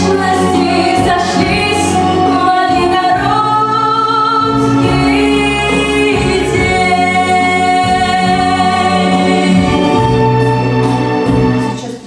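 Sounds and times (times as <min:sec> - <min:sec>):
woman singing pop ballad: 0:00.0 - 0:10.6
backing track: 0:00.0 - 0:12.0.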